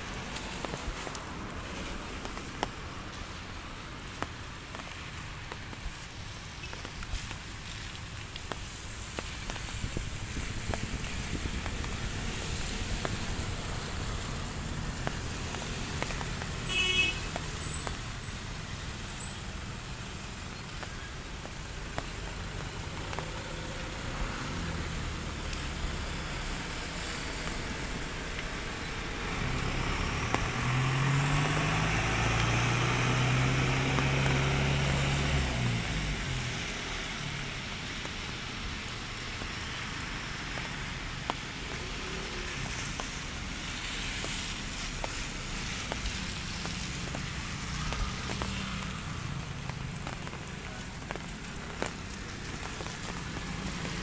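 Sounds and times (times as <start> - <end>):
car passing on wet road: 0.0 - 54.0.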